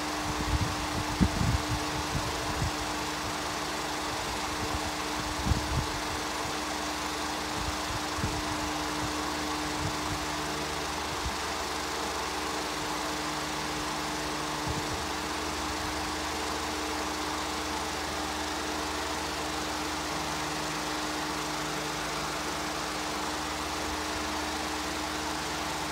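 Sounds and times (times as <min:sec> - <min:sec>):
steady hum: 0:00.0 - 0:25.9.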